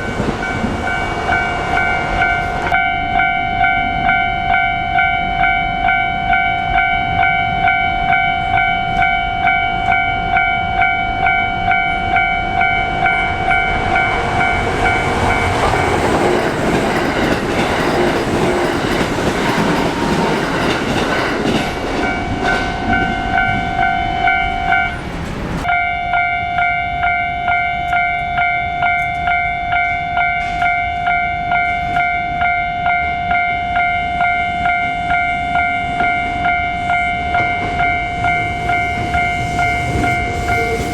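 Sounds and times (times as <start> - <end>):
train wheels on rails: 0.0 - 4.7, 6.3 - 25.8, 27.5 - 40.9
level crossing warning bell: 0.0 - 25.0, 25.6 - 40.9.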